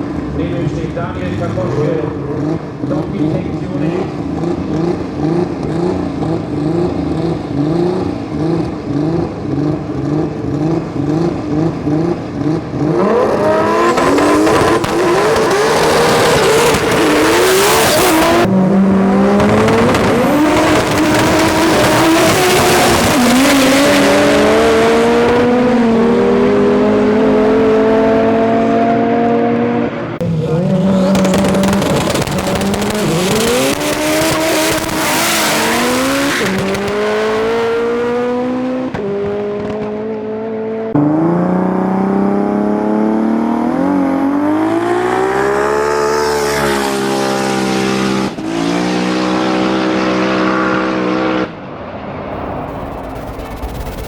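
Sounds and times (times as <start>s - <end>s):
drag race car engines revving: 0.0s - 54.0s.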